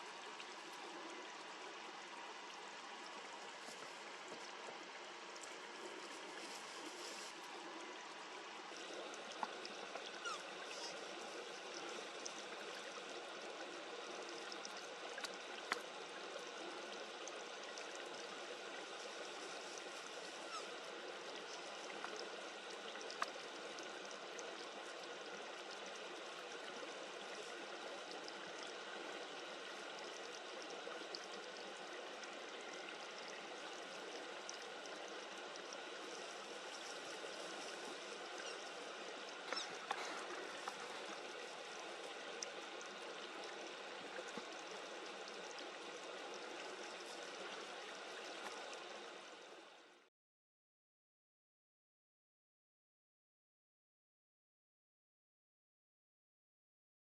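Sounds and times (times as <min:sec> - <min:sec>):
running water rushing: 0:00.0 - 0:49.6.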